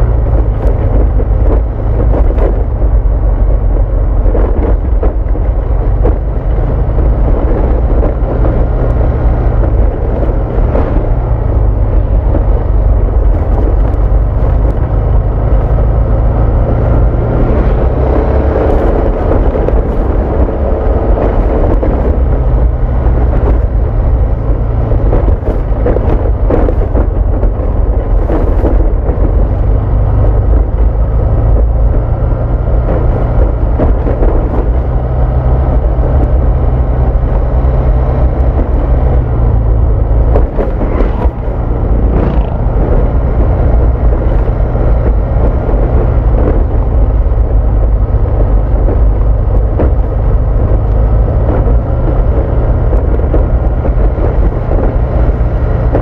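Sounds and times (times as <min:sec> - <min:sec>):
scooter engine hum: 0:00.0 - 0:56.0
wind rumble on microphone: 0:00.0 - 0:56.0.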